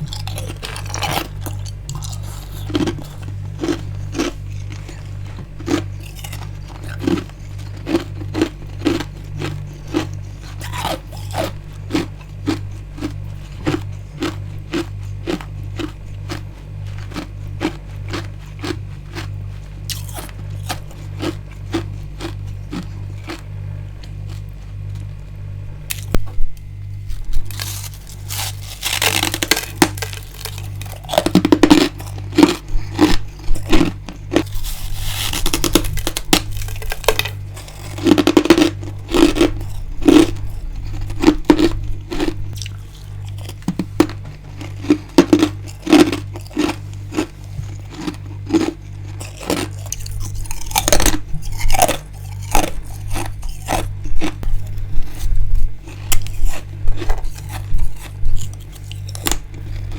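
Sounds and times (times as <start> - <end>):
ice being chewed: 0.0 - 25.3, 25.9 - 59.9.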